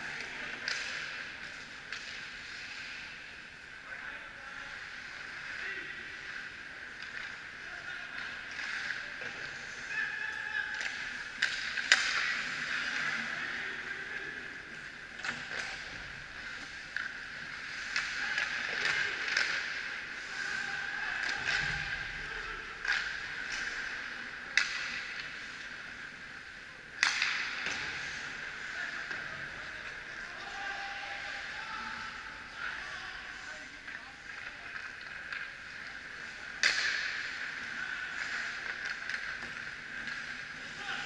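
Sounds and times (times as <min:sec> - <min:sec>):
hockey sticks and puck clacking: 0:00.0 - 0:03.6, 0:04.5 - 0:41.0.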